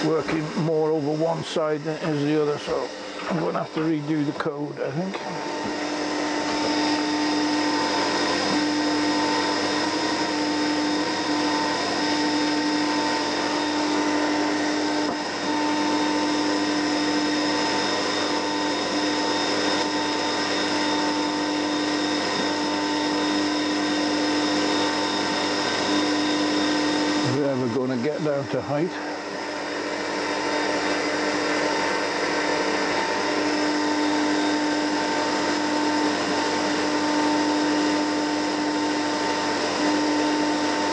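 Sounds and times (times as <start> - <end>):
mill spindle motor whining: 0.0 - 40.9.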